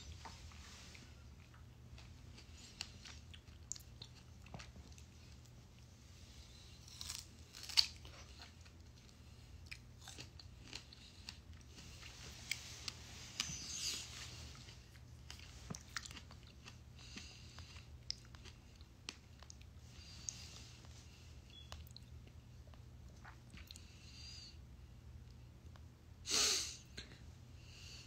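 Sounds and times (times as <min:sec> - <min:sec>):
person chewing crisp food: 0:00.1 - 0:24.0.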